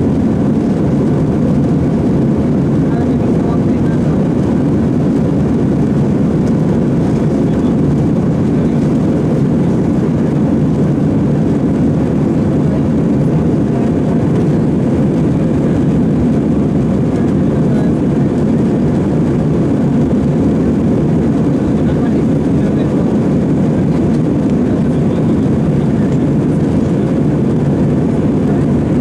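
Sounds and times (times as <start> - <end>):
jet airliner cabin engine noise: 0.0 - 29.0.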